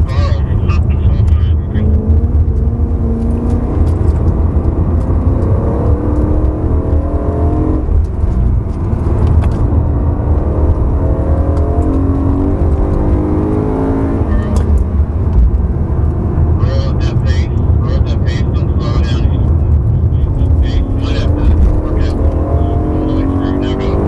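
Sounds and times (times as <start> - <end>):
car engine accelerating hard: 0.0 - 24.0
heavy low rumble: 0.0 - 24.0.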